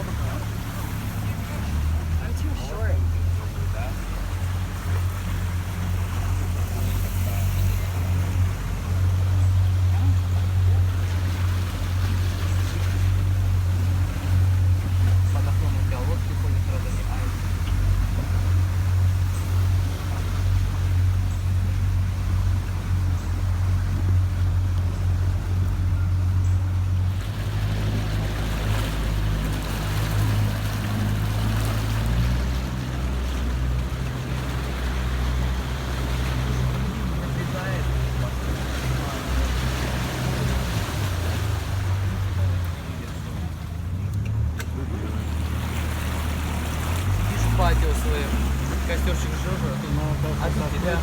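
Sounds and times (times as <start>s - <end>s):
boat motor humming: 0.0s - 51.0s
rushing water: 0.0s - 51.0s
wind: 0.0s - 51.0s.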